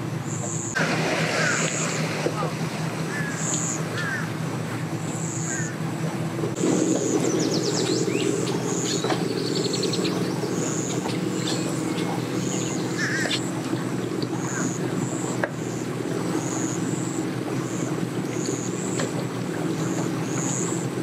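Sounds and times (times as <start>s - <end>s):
birds chirping: 0.0s - 21.0s
low engine hum: 0.0s - 21.0s
birds chattering: 0.2s - 20.9s.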